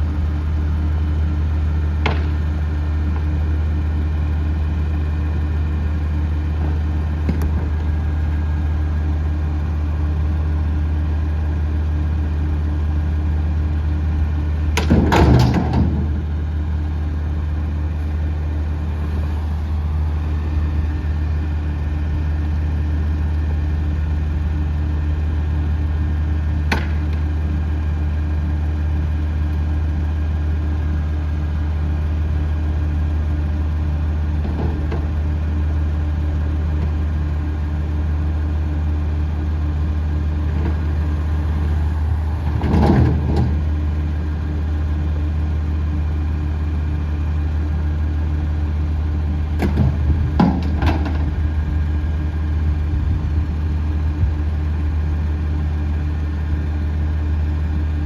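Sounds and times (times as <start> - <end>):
garbage truck diesel engine idling: 0.0 - 58.0.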